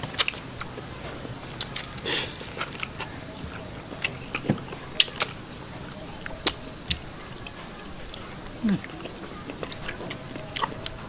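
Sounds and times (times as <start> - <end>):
wet lip smacks and chewing: 0.0 - 0.9, 1.6 - 11.0.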